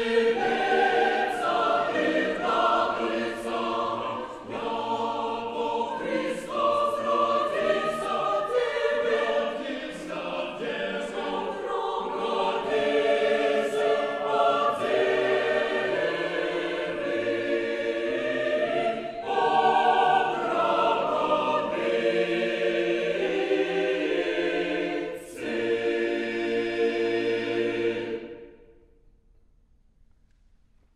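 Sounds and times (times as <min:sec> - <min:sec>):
choir singing a cappella: 0:00.0 - 0:29.1.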